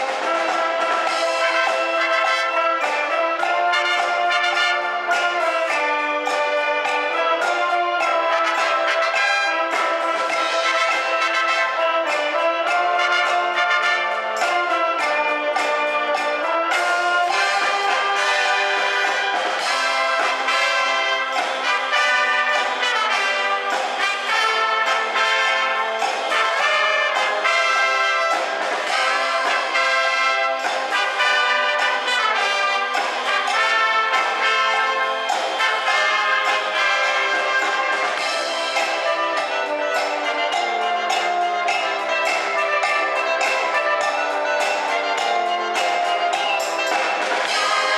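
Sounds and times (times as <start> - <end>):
concert band playing: 0.0 - 47.9.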